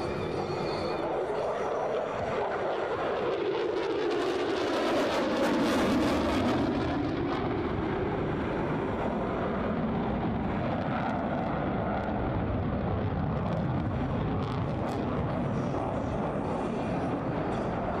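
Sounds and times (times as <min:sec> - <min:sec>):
jet engines rushing in flight: 0:00.0 - 0:18.0.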